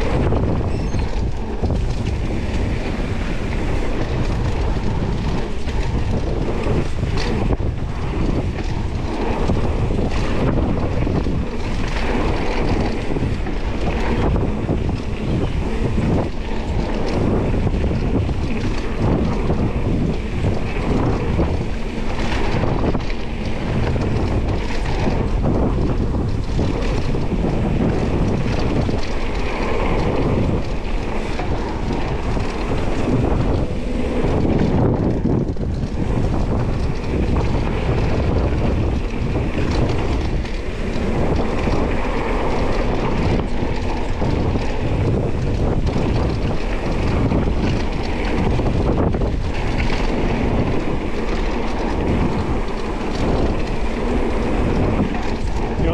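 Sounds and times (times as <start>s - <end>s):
mountain bike rumbling and rattling: 0.0s - 55.9s
wind buffeting microphone: 0.0s - 55.9s.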